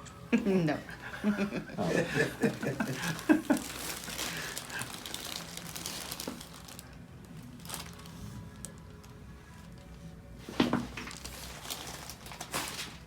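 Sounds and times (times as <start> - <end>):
rustling and crinkling: 2.4 - 13.0.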